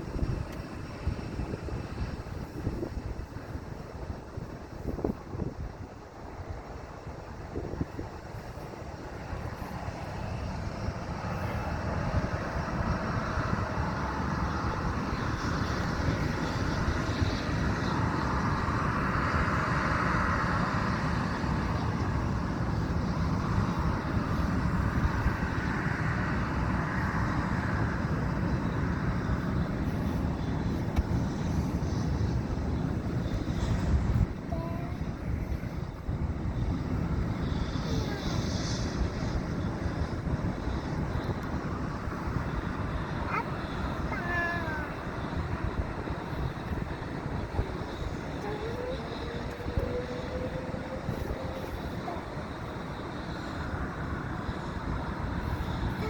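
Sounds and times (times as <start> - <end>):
airplane taking off: 0.0 - 56.0.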